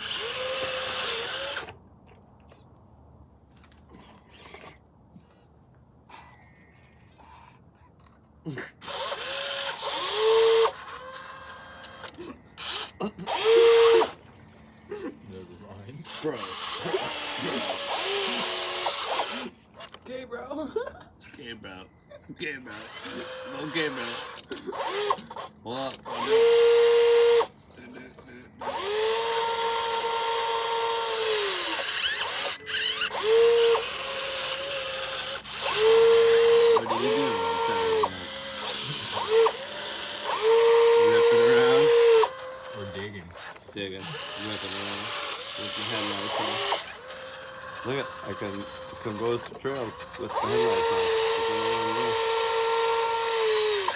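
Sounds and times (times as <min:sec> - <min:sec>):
small electric motors whirring: 0:00.0 - 0:01.8, 0:03.9 - 0:05.4, 0:06.8 - 0:20.2, 0:22.6 - 0:53.9.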